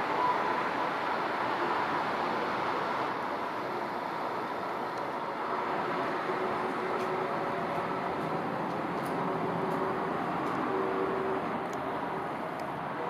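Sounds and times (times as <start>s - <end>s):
thin steady whine: 0.0s - 13.0s
train wheels rumbling on rail: 0.0s - 13.0s.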